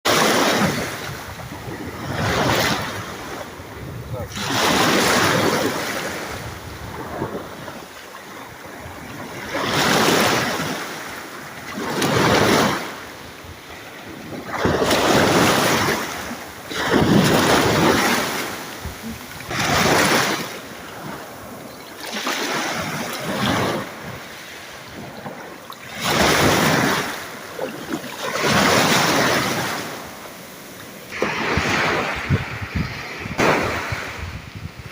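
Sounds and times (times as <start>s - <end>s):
small sea waves washing: 0.1s - 34.9s.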